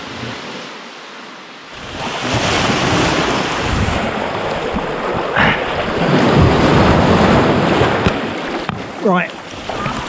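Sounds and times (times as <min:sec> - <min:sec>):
sea waves washing around kayak: 0:00.0 - 0:10.0
wind buffeting microphone: 0:01.8 - 0:10.0.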